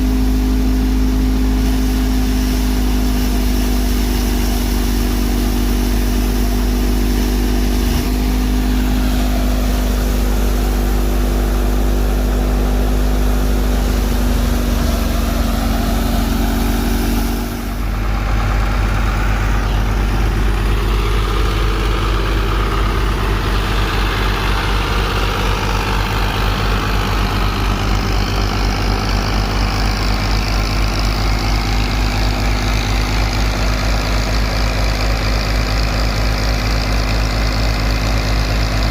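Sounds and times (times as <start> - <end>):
thresher pulsing: 0.0 - 35.4
tractor engine running: 0.0 - 38.9.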